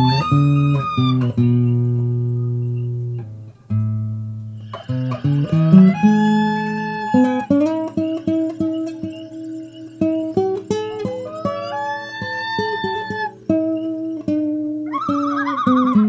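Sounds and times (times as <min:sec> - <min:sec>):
plucked guitar music: 0:00.0 - 0:16.0.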